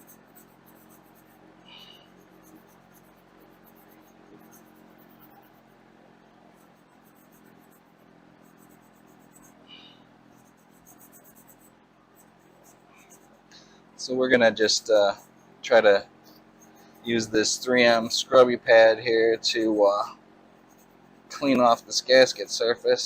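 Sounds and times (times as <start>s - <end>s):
scratchy scrubbing on gasket: 0.0s - 5.9s, 6.5s - 23.0s
steady low hum: 0.0s - 23.0s.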